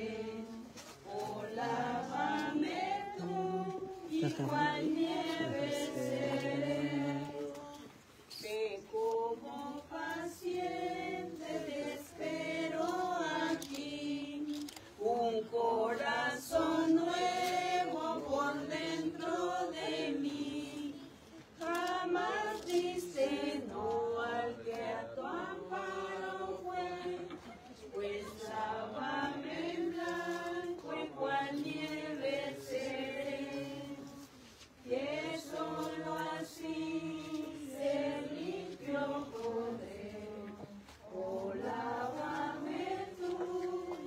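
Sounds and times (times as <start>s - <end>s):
group singing a hymn: 0.0s - 44.0s.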